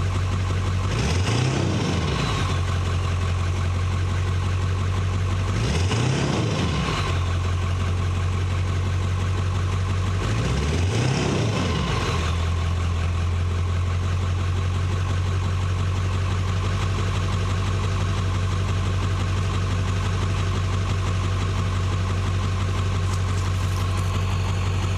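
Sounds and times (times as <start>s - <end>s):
pickup engine idling and revving: 0.0s - 24.9s.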